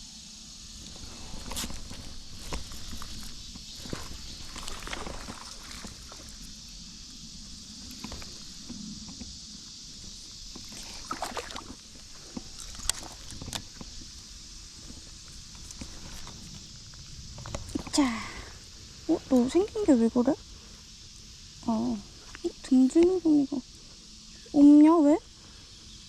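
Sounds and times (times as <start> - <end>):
high insect chorus: 0.0 - 26.0
rustles: 0.6 - 26.0.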